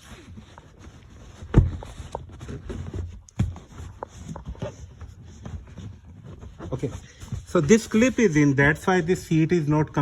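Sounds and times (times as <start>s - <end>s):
dull thumps: 0.1s - 8.3s.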